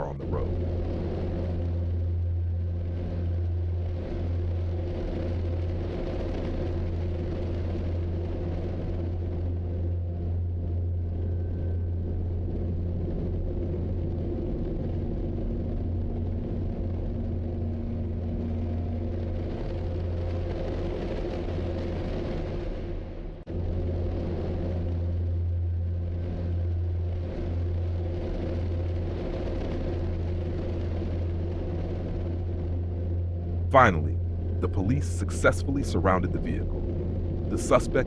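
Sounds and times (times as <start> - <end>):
vehicle engine rumble: 0.0 - 38.0.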